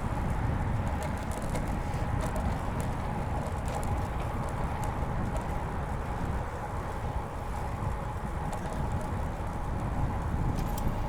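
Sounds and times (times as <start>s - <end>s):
bicycle tyre hum: 0.0s - 11.0s
wind rumbling on microphone: 0.0s - 11.0s.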